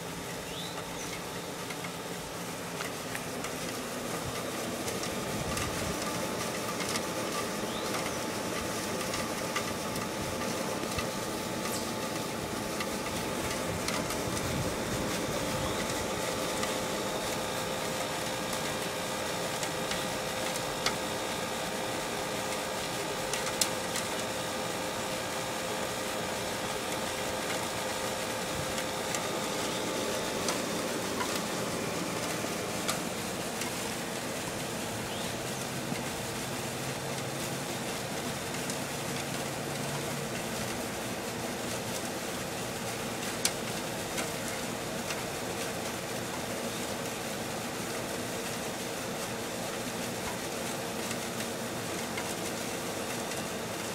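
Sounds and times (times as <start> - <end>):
air conditioner whirring: 0.0 - 53.9
faint steady hum: 0.0 - 53.9.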